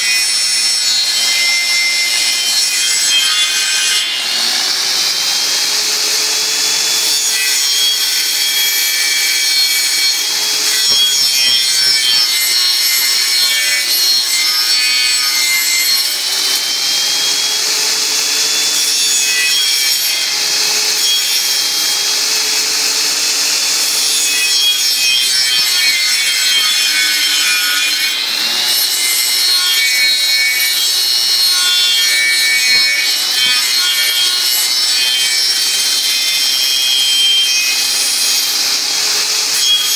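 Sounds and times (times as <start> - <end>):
lathe cutter shaving wood: 0.0 - 39.9.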